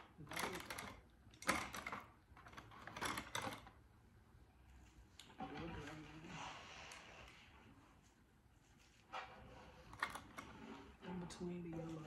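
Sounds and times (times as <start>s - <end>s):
decorations rustling and clicking: 0.0s - 3.8s, 4.7s - 12.0s.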